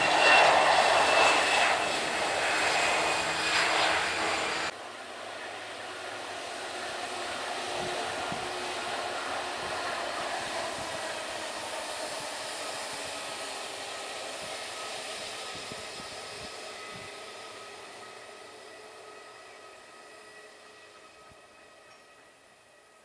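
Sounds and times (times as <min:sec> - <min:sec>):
airliner engine noise: 0:00.0 - 0:23.0.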